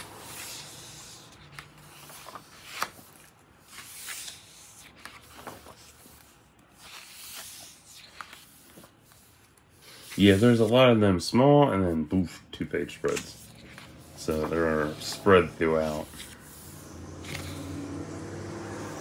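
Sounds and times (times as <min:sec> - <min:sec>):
book pages turning: 0:00.0 - 0:11.0, 0:11.9 - 0:18.4.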